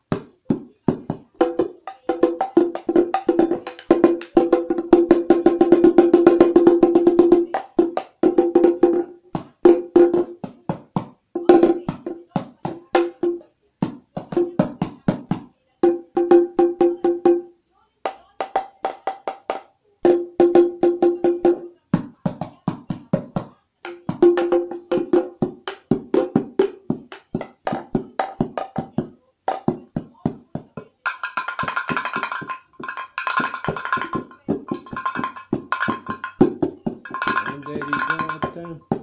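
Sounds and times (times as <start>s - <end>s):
hand percussion strikes: 0.0s - 39.0s.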